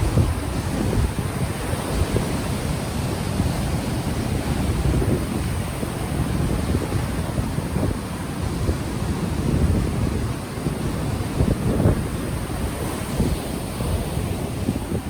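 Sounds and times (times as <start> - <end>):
ocean waves on shore: 0.0 - 15.0
wind buffeting microphone: 0.0 - 15.0.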